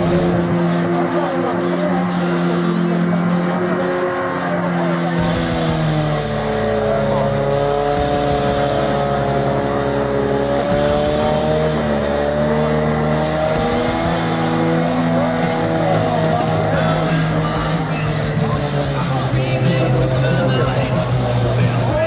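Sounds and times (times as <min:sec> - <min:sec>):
off-road vehicle engine: 0:00.0 - 0:22.0.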